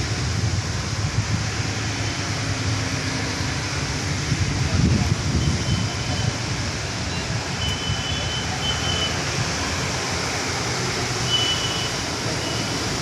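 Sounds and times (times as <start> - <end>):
steady rain hiss: 0.0 - 13.0
traffic on wet road: 0.0 - 13.0.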